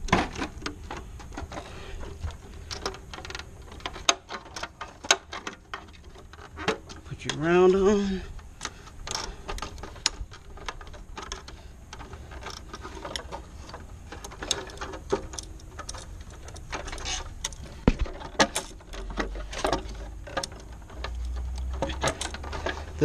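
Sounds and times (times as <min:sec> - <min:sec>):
low steady hum: 0:00.0 - 0:23.0
small clicks and knocks: 0:00.0 - 0:23.0.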